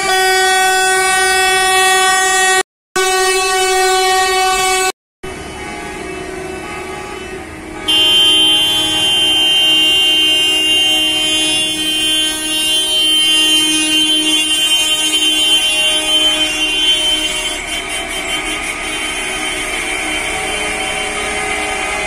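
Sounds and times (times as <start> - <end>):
bus horns honking: 0.0 - 22.0
loud steady horn: 0.0 - 22.0.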